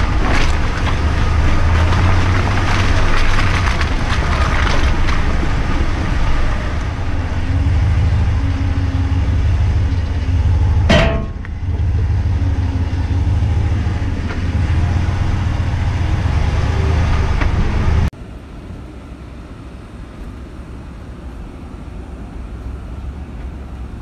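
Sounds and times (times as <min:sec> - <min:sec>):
pickup engine and tyres rumbling: 0:00.0 - 0:24.0.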